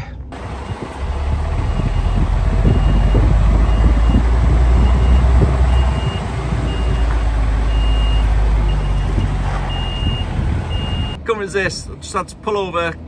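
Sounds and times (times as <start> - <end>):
loud low rumble: 0.4 - 11.2
vehicle reversing alarm beeping: 0.4 - 11.2.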